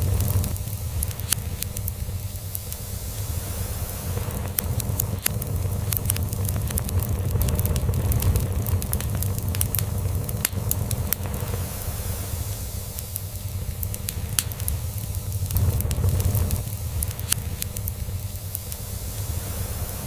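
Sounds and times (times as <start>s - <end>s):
crackling log fire: 0.0s - 20.0s.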